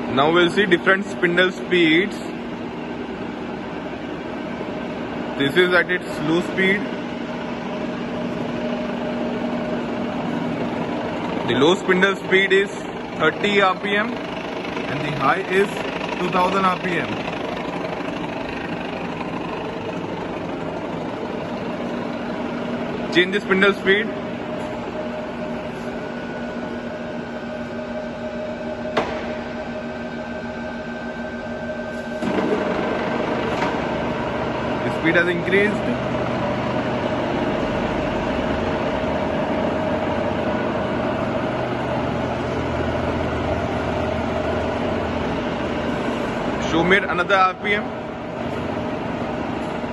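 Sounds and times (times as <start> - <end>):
milling machine motor hum: 0.0 - 49.9.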